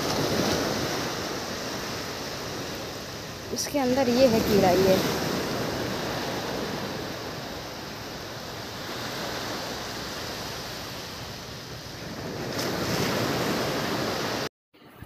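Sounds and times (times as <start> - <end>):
waves breaking on sand: 0.0 - 14.5.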